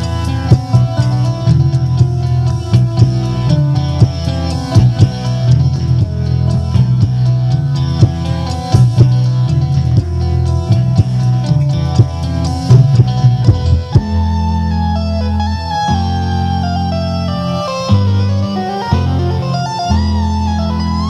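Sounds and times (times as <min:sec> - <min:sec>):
song with guitar drums and bass: 0:00.0 - 0:21.0.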